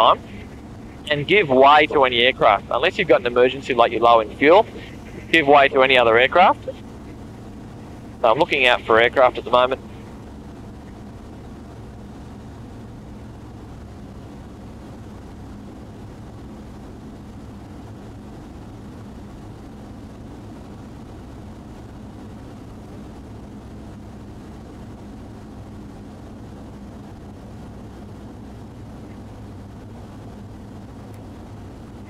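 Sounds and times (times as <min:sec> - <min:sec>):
light aircraft engine drone: 0:00.0 - 0:32.0.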